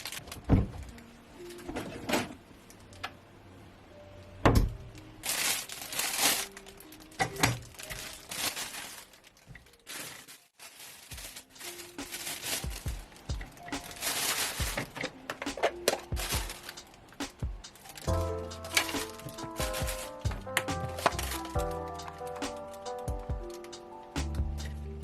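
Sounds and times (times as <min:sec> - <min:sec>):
rustling and crinkling: 0:00.0 - 0:02.9, 0:04.9 - 0:24.8
soft background music: 0:00.0 - 0:25.0.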